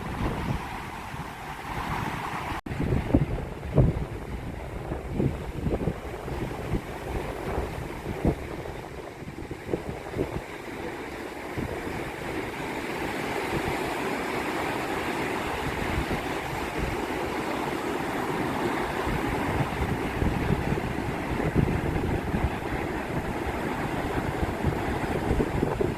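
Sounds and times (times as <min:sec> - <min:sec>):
waves breaking: 0:00.0 - 0:25.9
wind buffeting microphone: 0:00.0 - 0:25.9.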